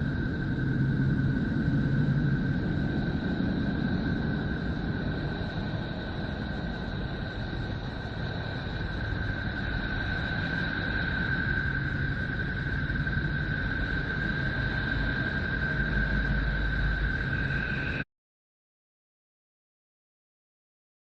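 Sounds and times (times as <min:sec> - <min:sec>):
steady rumbling hiss: 0:00.0 - 0:18.0.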